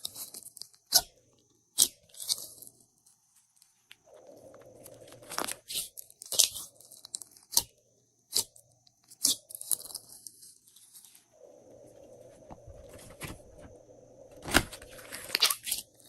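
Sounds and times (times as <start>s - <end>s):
wet crackle: 0.0s - 16.0s.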